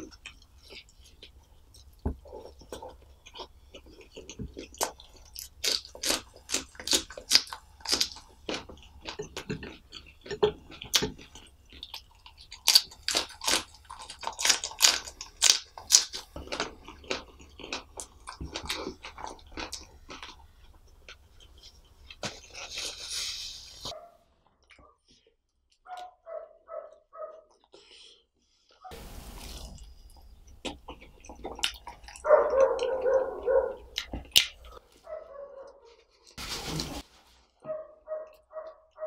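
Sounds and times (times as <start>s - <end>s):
crunchy chewing of chilli: 0.0s - 28.7s, 29.3s - 36.4s.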